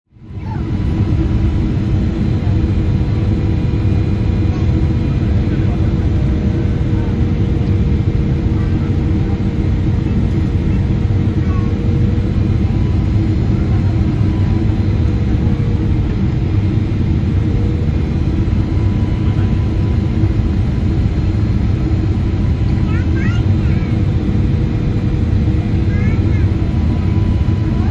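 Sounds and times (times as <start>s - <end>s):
airliner cabin engine rumble: 0.1s - 27.9s.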